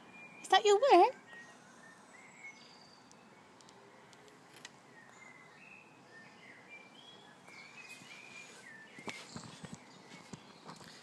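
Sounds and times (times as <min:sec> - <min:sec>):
high bird chirps: 0:00.0 - 0:11.0.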